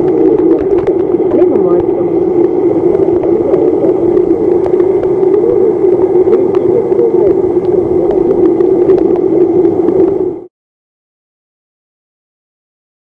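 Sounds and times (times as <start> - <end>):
burbling glides: 0.0 - 10.5
underwater low hum: 0.0 - 10.5.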